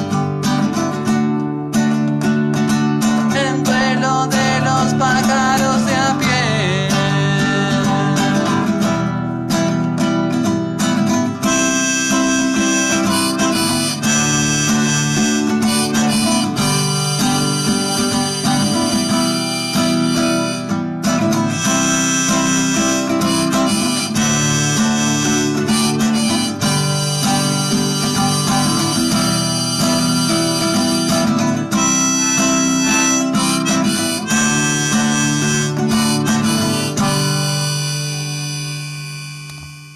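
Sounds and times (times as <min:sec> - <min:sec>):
guitar accompaniment: 0:00.0 - 0:39.9
harmonica melody: 0:00.0 - 0:39.9.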